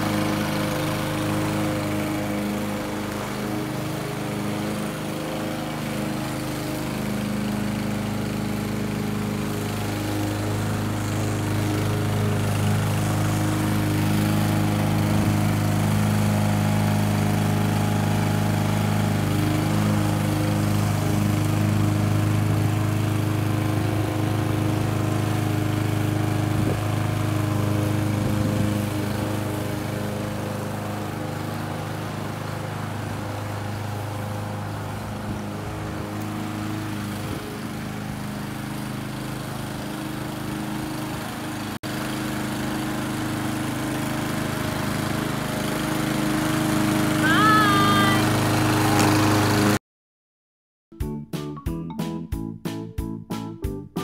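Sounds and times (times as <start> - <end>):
lawn mower engine mowing grass: 0.0 - 49.8.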